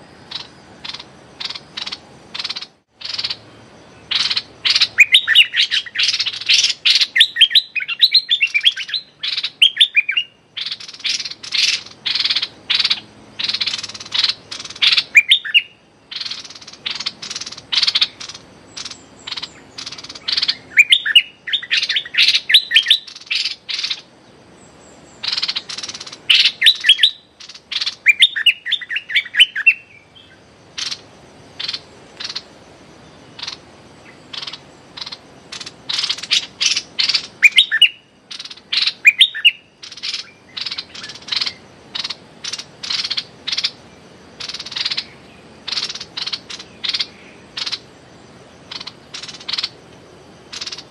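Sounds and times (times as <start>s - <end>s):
bird chattering calls: 0.3s - 24.1s, 25.0s - 48.0s, 48.6s - 50.9s.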